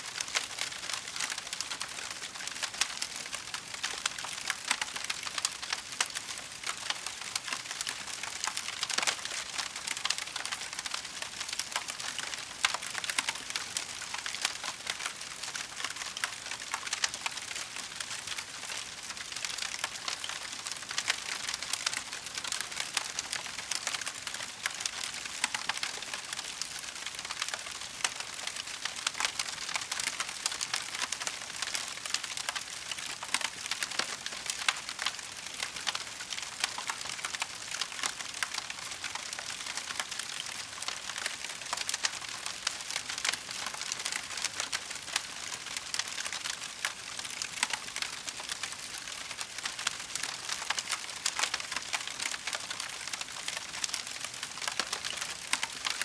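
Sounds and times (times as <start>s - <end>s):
wood fire crackling: 0.1s - 56.0s.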